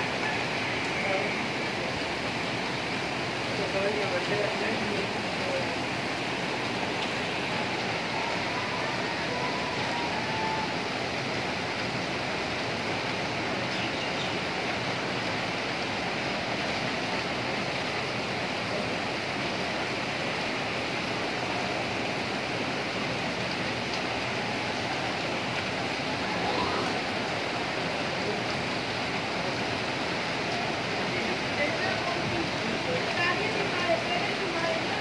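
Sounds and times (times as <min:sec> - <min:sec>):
flooded river rushing: 0:00.0 - 0:35.0.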